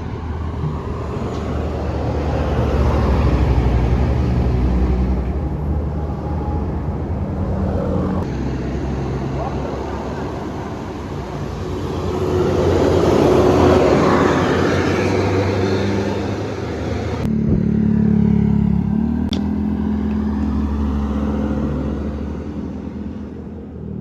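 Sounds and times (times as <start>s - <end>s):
bus engine humming steadily: 0.0s - 24.0s
bus passing by: 0.0s - 24.0s.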